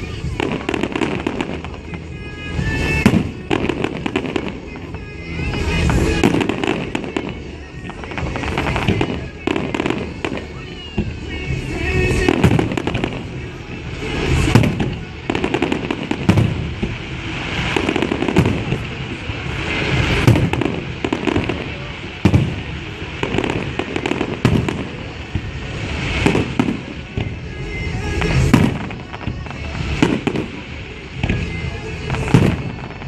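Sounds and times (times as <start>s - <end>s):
fireworks booming: 0.0s - 33.0s
fireworks pops and crackling: 0.0s - 33.0s.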